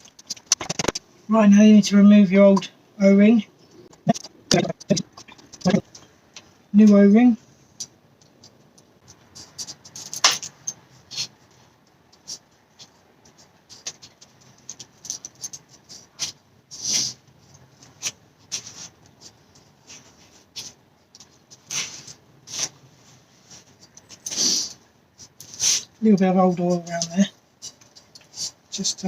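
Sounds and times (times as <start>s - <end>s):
hands clicking and scraping parts: 0.0s - 1.1s, 3.7s - 6.5s, 7.7s - 22.9s, 23.5s - 29.0s.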